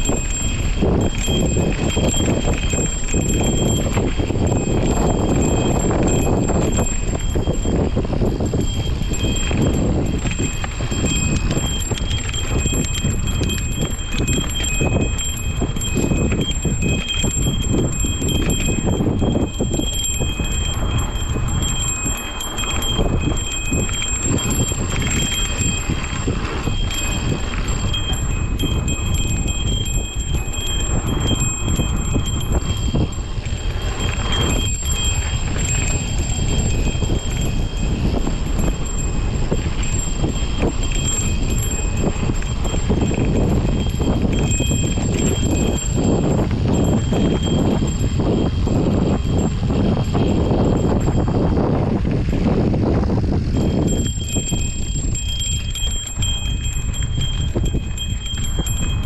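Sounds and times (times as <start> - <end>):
bike rattling and knocking: 0.0 - 59.0
bike tyre rumble: 0.0 - 59.0
wind noise on microphone: 0.0 - 59.0.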